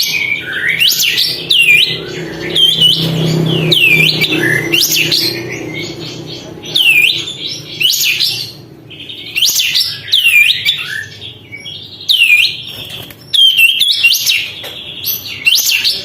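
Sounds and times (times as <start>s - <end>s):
bird buzzy chatter: 0.0s - 16.0s.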